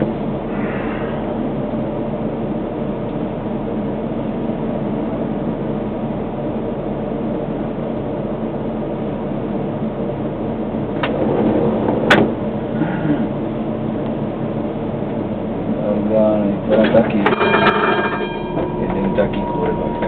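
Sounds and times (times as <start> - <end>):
tram cab hum: 0.0 - 20.0.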